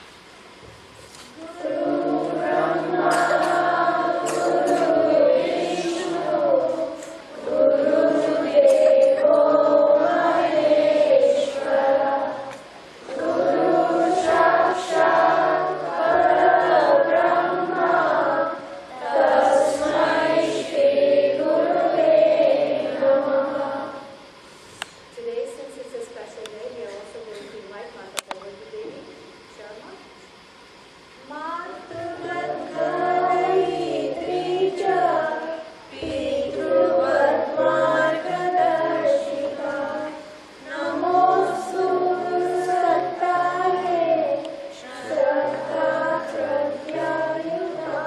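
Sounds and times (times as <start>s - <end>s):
group singing in unison: 1.4s - 24.3s, 31.9s - 48.0s.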